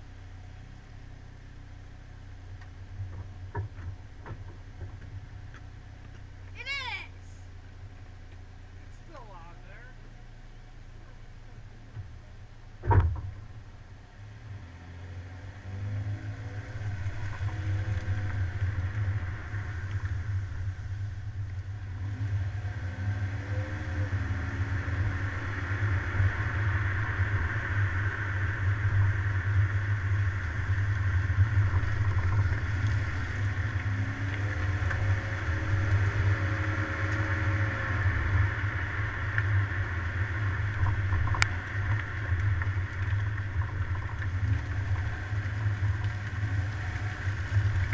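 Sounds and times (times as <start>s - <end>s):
road noise: 0.0s - 47.9s
car engine revving: 4.2s - 47.9s.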